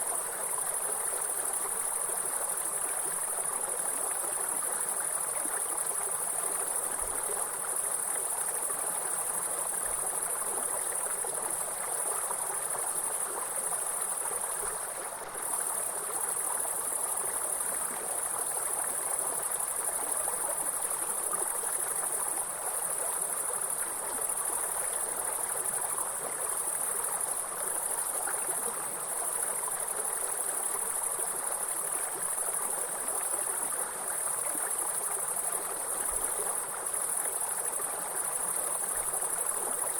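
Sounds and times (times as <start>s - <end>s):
high-pitched insect chorus: 0.0s - 39.9s
stream water flowing: 0.0s - 39.9s.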